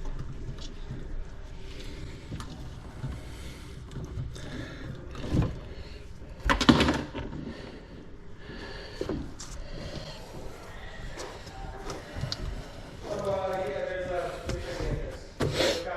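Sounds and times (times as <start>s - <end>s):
objects rattling and clattering: 0.0s - 15.6s.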